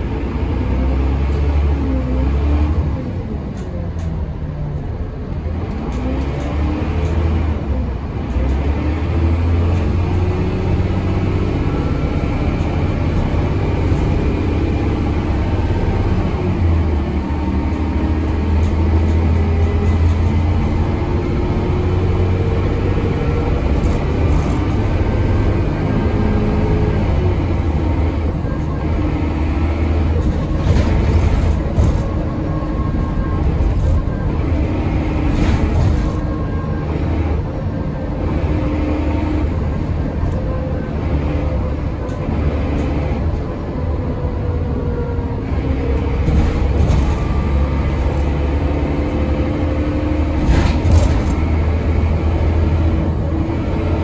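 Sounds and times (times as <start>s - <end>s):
bus diesel engine revving: 0.0s - 54.0s.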